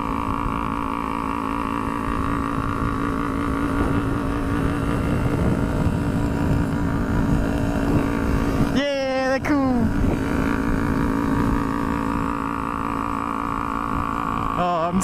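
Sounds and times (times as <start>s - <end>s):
motorcycle engine cruising: 0.0s - 15.0s
wind rushing on microphone: 0.0s - 15.0s.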